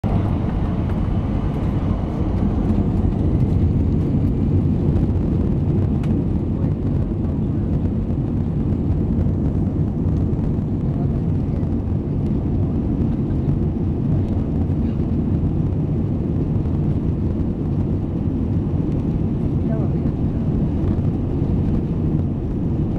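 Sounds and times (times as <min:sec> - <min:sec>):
jet airliner takeoff rumble: 0:00.0 - 0:22.9.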